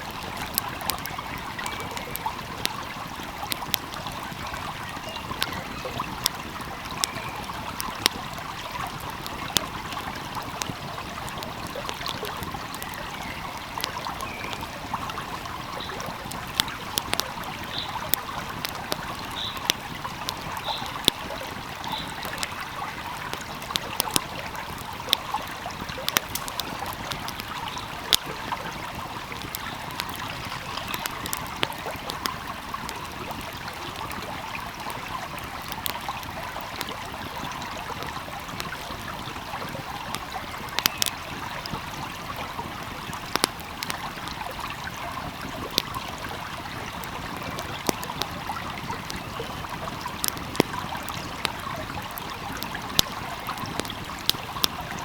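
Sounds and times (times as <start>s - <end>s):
stream flowing: 0.0s - 55.0s
wood fire crackling: 0.0s - 55.0s.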